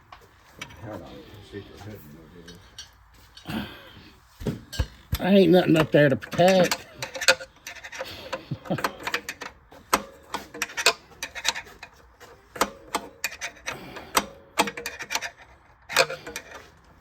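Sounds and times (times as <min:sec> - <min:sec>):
wrench metallic clicks and scrapes: 0:00.0 - 0:03.6, 0:04.4 - 0:17.0.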